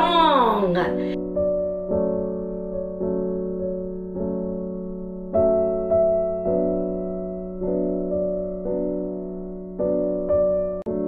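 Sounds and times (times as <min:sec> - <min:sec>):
slow keyboard chords: 0:00.0 - 0:11.0.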